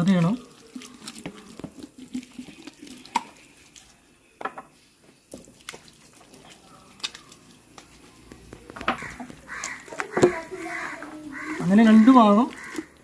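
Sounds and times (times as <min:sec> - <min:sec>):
wet squishes of hands on meat: 0:00.0 - 0:04.2, 0:05.0 - 0:13.0.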